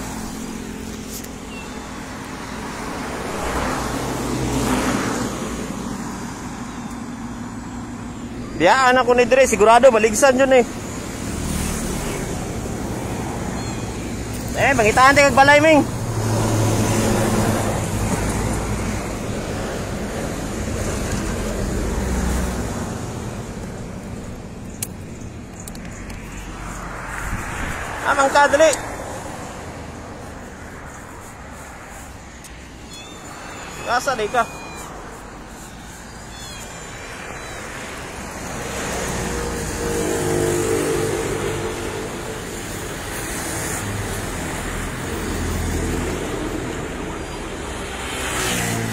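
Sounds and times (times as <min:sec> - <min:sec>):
passing vehicles rumbling: 0:00.0 - 0:48.9
steady traffic noise: 0:00.0 - 0:48.9.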